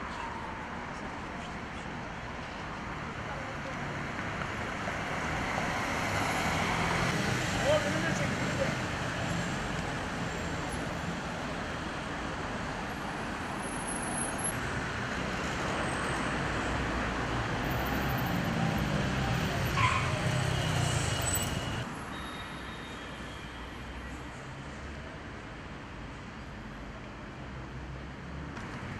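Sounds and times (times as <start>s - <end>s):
city road traffic: 0.0s - 28.9s.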